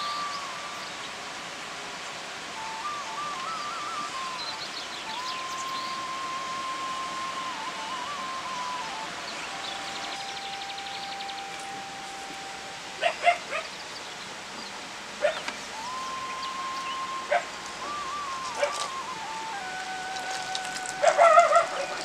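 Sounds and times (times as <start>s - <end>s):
soft background music: 0.0s - 13.7s, 14.3s - 22.0s.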